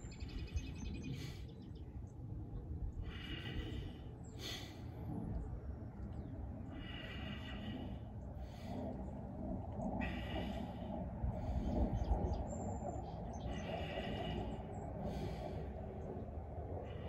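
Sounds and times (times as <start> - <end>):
man breathing slowly: 0.0 - 17.0.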